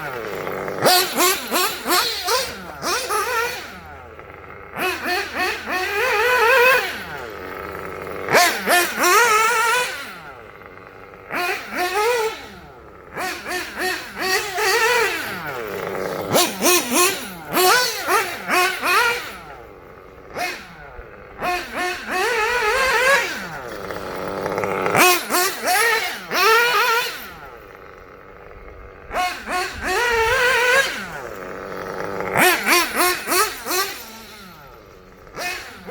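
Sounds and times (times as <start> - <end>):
model car engine revving: 0.0 - 35.9.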